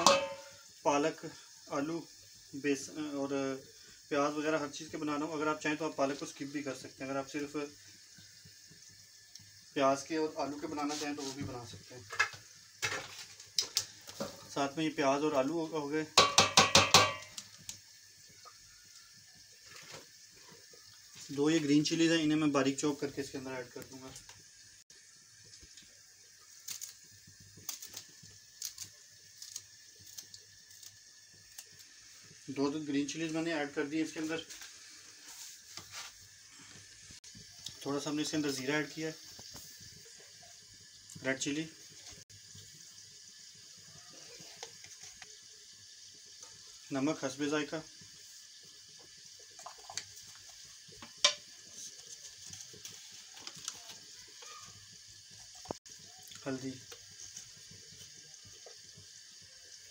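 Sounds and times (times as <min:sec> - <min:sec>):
food sizzling on stove: 0:00.0 - 0:59.9.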